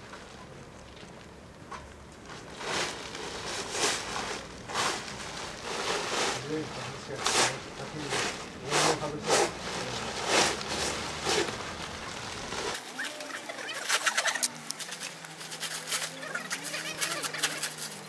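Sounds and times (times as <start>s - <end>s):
plastic sheeting crinkling: 0.0s - 18.0s.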